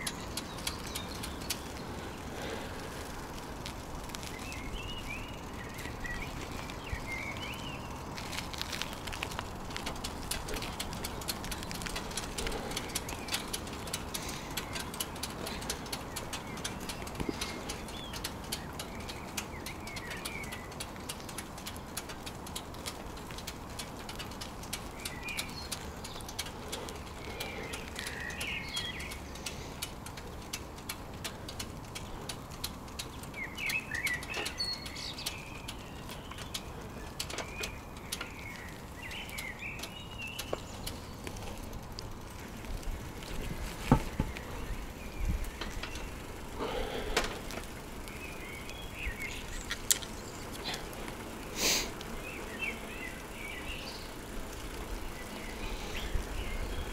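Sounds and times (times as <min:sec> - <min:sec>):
bicycle tyre noise: 0:00.0 - 0:56.9
fast run of clicks: 0:00.0 - 0:56.9
small birds chirping: 0:00.0 - 0:56.9.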